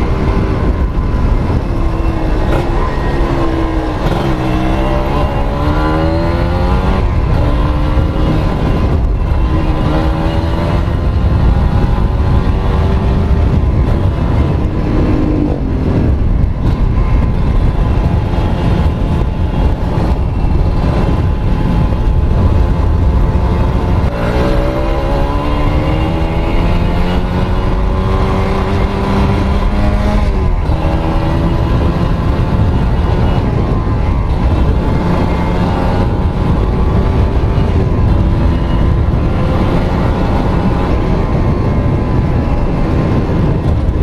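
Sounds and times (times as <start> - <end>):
two-stroke motorcycle engine accelerating: 0.0 - 44.0.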